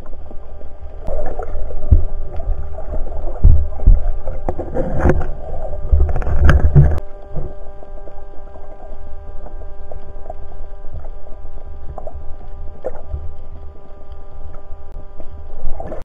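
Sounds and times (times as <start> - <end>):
water sloshing: 0.0 - 13.9
faint electronic whine: 0.0 - 16.0
underwater low rumble: 0.0 - 16.0.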